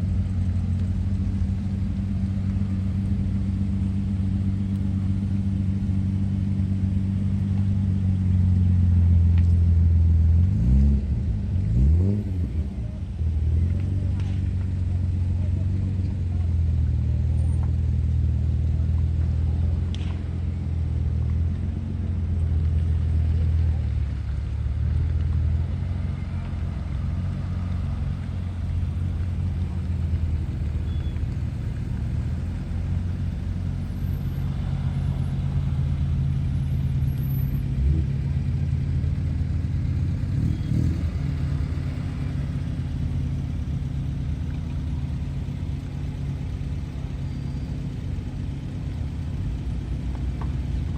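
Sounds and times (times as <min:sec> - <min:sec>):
car engine droning: 0:00.0 - 0:50.9.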